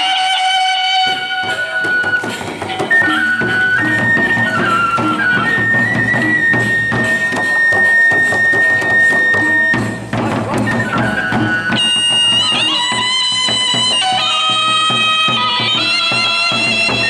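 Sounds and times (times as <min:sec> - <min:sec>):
bamboo flute melody: 0:00.0 - 0:17.0
drums and percussion: 0:00.0 - 0:17.0.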